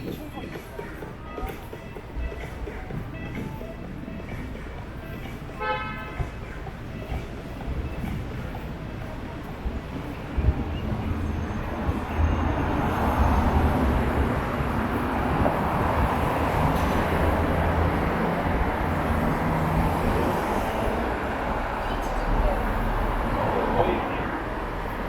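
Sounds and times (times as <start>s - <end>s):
vehicles driving past: 0.0s - 25.0s.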